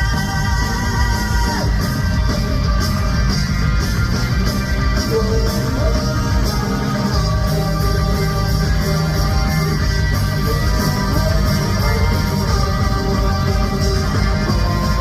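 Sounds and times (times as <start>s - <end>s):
electric guitar: 0.0s - 15.0s
rock band playing: 0.0s - 15.0s.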